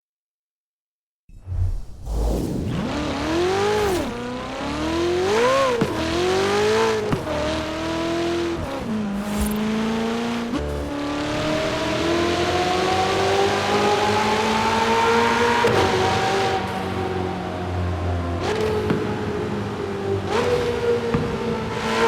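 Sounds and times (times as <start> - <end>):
car engine revving: 1.5 - 22.0.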